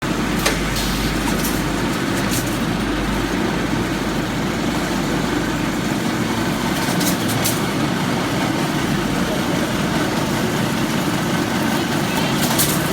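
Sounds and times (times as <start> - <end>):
machine drone and hum: 0.0 - 12.9.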